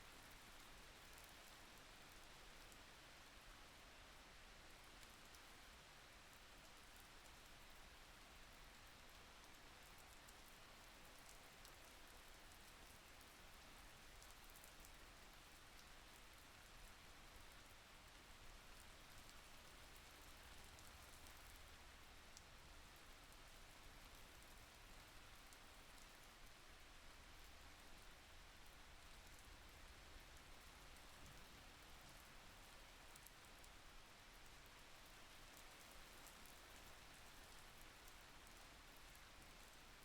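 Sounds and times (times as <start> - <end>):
faint steady rain: 0.0 - 40.0.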